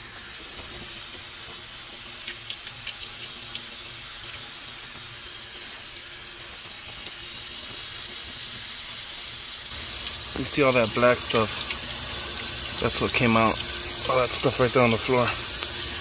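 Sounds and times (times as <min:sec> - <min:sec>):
drips ticking: 0:00.2 - 0:16.0.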